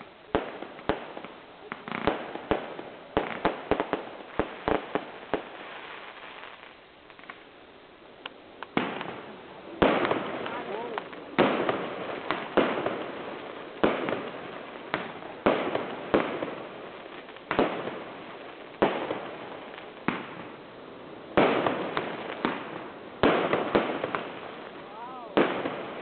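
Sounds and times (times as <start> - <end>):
firework bursts: 0.0 - 26.0.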